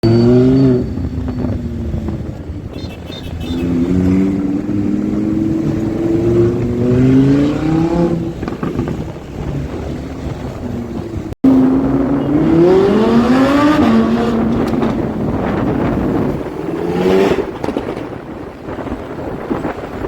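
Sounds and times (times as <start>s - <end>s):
exhaust crackles: 0.0s - 20.0s
car engine accelerating: 3.3s - 20.0s.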